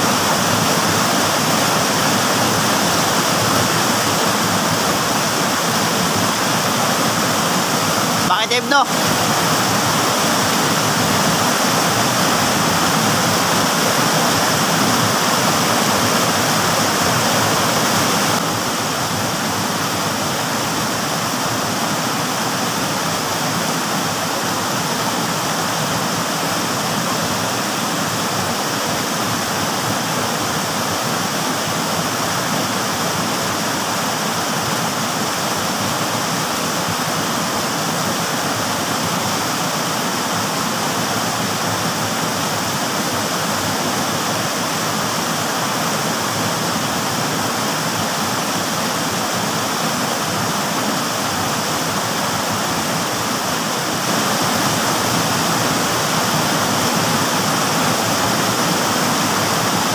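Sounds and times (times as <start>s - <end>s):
stream pouring over rocks: 0.0s - 59.9s.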